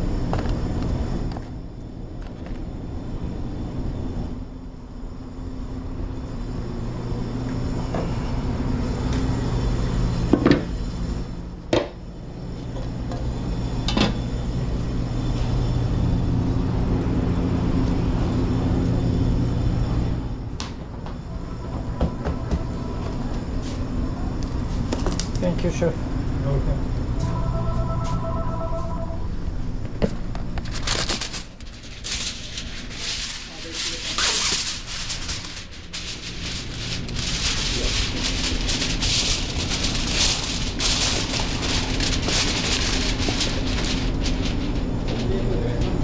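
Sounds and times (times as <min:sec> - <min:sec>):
kitchen equipment humming: 0:00.0 - 0:46.0.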